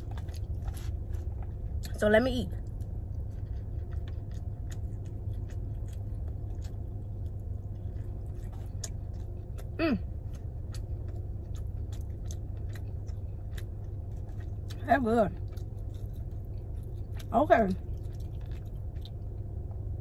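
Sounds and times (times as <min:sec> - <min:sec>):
low hum: 0:00.0 - 0:20.0
person chewing food: 0:00.0 - 0:20.0.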